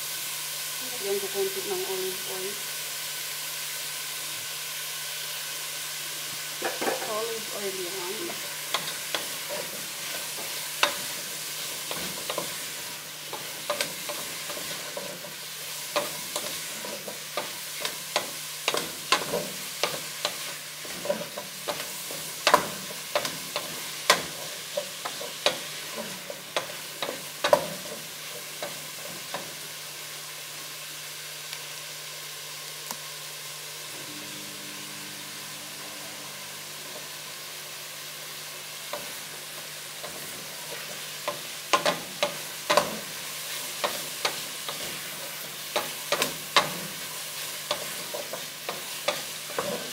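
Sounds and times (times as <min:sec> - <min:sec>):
onions sizzling in oil: 0:00.0 - 0:49.9.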